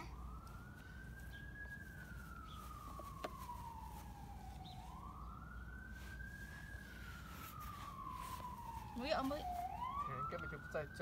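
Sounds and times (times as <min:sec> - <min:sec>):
faint wailing siren: 0:00.0 - 0:11.0.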